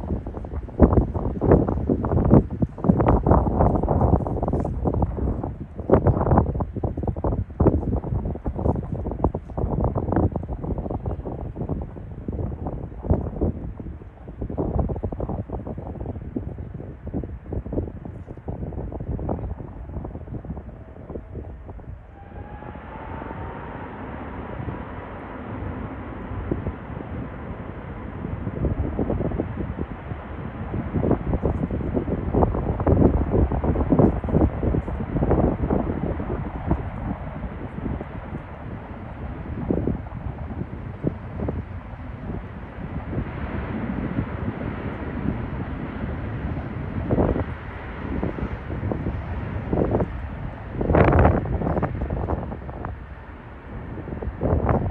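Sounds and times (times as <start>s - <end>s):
jet engine whine and roar: 0.0s - 54.9s
wind buffeting microphone: 0.0s - 54.9s.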